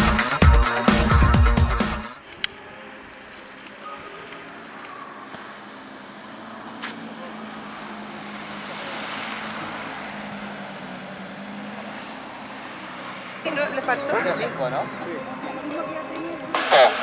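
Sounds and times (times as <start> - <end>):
boat engine droning: 2.2 - 17.0.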